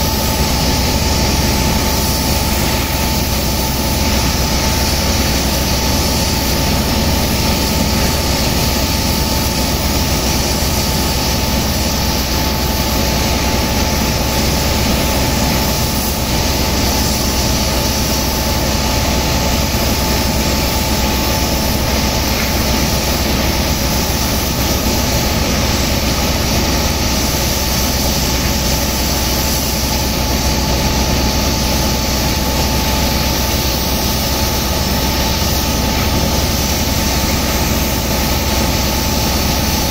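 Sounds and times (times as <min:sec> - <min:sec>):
high-pressure water jets hissing: 0:00.0 - 0:39.9
pump engine droning: 0:00.0 - 0:39.9.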